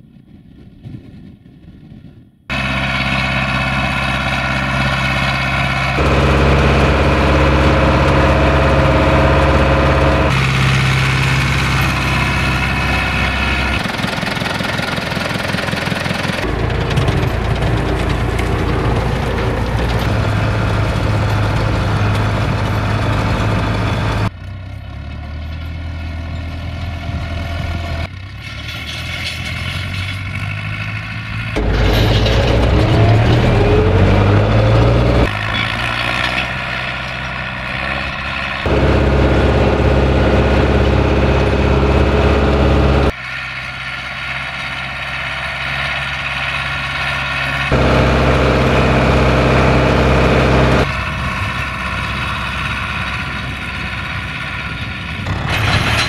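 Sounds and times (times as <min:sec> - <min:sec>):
tractor diesel engine running: 0:02.5 - 0:56.0.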